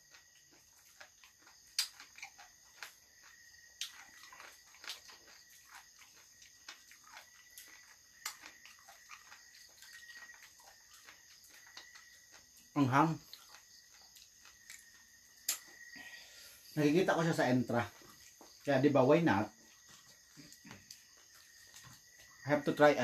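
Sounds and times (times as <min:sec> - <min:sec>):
insects chirring: 0:00.0 - 0:23.0
people chewing and eating: 0:00.0 - 0:23.0.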